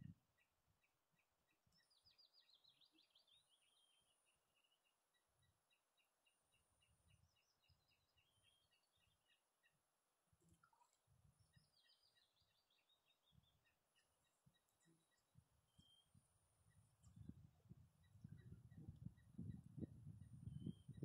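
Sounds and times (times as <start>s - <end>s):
bird chirping: 0.3s - 21.0s.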